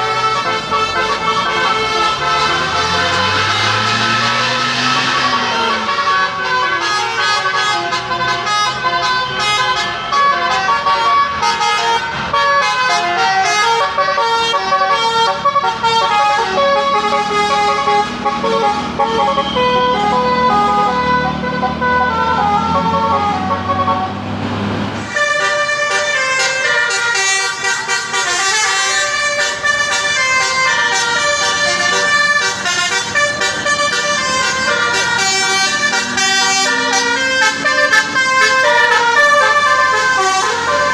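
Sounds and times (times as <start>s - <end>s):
bus engine revving: 0.0s - 40.9s
bus musical horn playing tunes: 0.0s - 40.9s.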